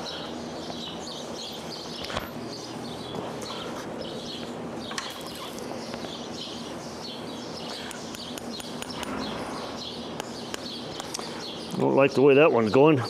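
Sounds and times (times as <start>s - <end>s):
small bird chirping: 0.0s - 11.9s
steady low hum: 0.0s - 13.0s.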